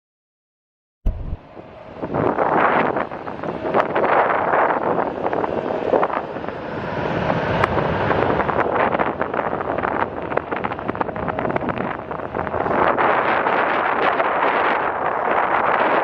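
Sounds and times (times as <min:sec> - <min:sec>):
wind buffeting microphone: 0:01.1 - 0:16.0.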